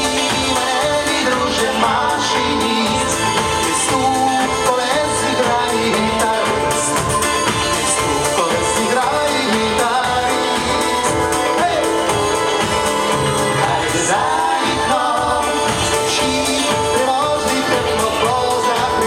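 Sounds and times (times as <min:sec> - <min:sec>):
instrumental band music: 0:00.0 - 0:19.0
sliding lead melody: 0:00.0 - 0:19.0.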